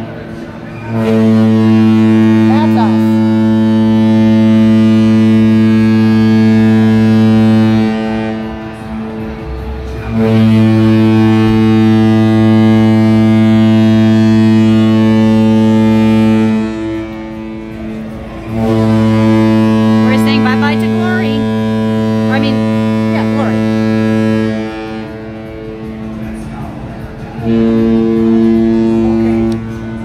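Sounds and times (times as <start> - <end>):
ship horn blasts: 0.0 - 30.0.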